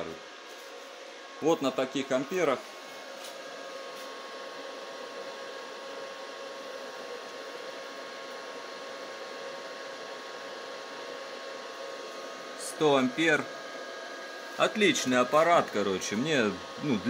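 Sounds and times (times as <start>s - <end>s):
welding machine cooling fan whirring: 0.0s - 17.0s.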